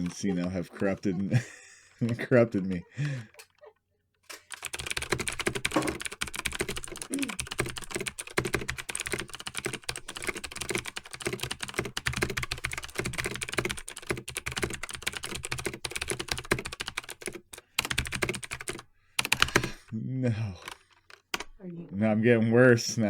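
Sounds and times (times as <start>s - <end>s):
rapid keyboard typing: 0.0s - 3.6s, 4.4s - 19.9s, 20.6s - 21.8s.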